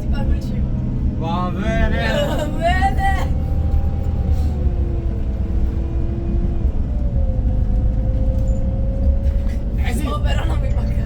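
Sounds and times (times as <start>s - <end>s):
bus drivetrain rumble: 0.0s - 11.0s.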